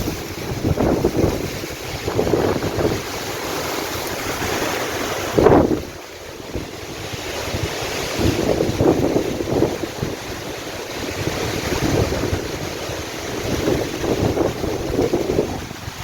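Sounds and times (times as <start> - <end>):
heavy rain: 0.0 - 16.0
wind gusting on microphone: 0.0 - 16.0.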